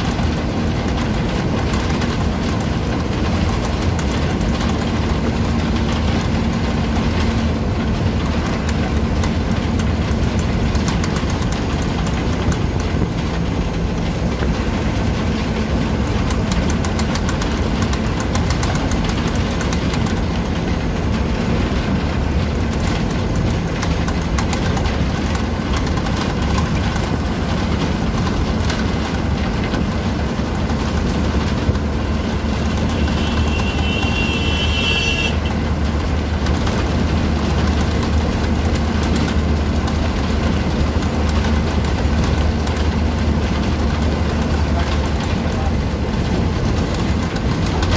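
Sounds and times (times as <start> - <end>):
rattles from bus body: 0.0 - 33.8, 34.6 - 47.9
bus engine running: 0.0 - 47.9.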